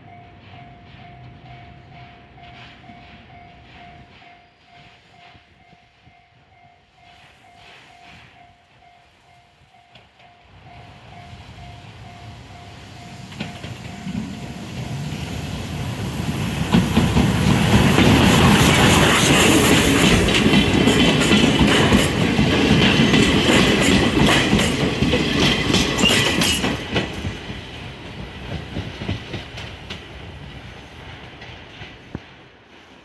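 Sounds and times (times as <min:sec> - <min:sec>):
steam train passing: 0:00.0 - 0:33.0.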